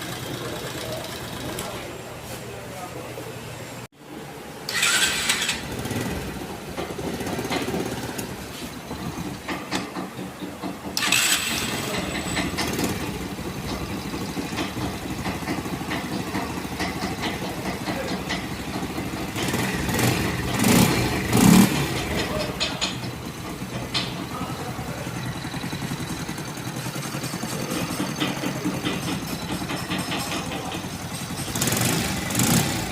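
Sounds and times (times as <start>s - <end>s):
motorcycle engine revving: 0.0s - 1.8s, 4.7s - 10.0s, 10.6s - 32.9s
motorcycle engine clattering: 0.0s - 1.9s, 4.7s - 32.9s.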